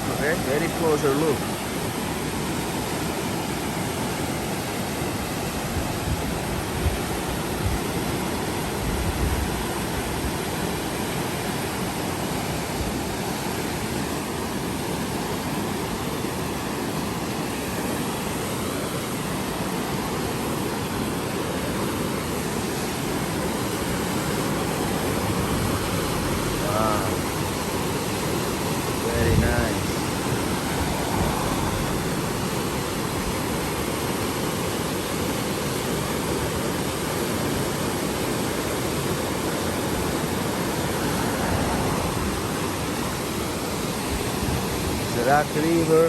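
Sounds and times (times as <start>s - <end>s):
fast-flowing river rushing: 0.0s - 46.0s.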